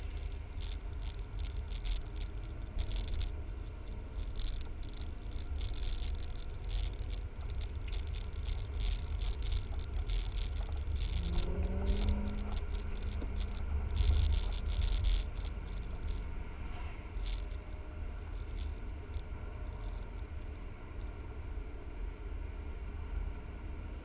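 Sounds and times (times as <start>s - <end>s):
light ticks and rattles: 0.0s - 21.2s
car engine and road rumble: 0.0s - 24.0s.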